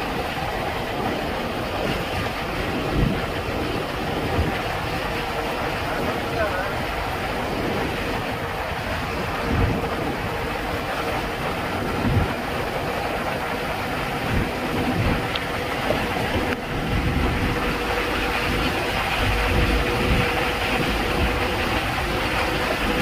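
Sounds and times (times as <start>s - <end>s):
wind and road noise: 0.0s - 23.0s
wind buffeting microphone: 0.0s - 23.0s.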